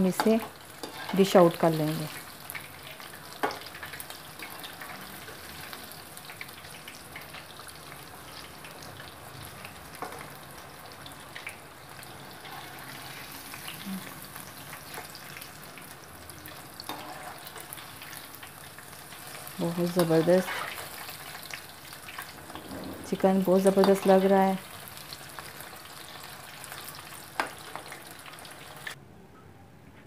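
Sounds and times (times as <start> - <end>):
chicken deep-frying in hot oil: 0.0 - 29.0.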